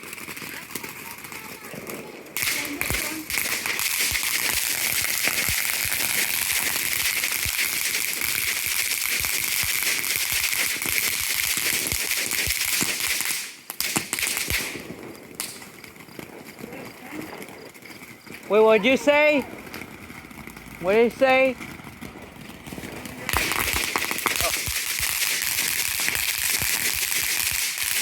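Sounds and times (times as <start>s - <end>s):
firework hissing and crackling: 0.0s - 17.8s, 18.4s - 28.0s.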